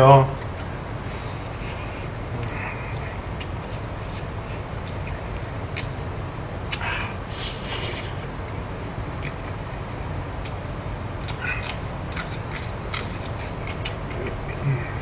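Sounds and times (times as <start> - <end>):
steady low hum: 0.0 - 15.0
man chewing with wet smacks: 0.4 - 0.7, 1.3 - 6.0, 6.6 - 15.0.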